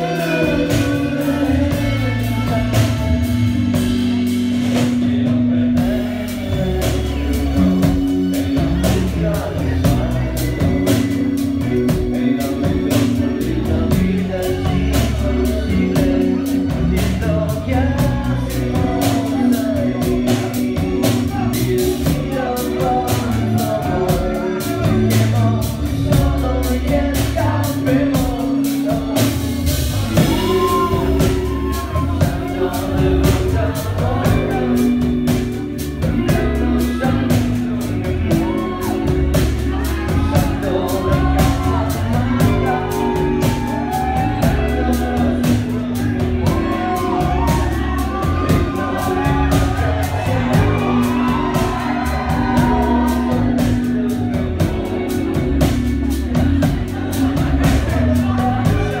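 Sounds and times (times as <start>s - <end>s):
bass: 0.0s - 59.0s
drum beat: 0.0s - 59.0s
guitar: 0.0s - 59.0s
man singing into a microphone: 0.0s - 59.0s.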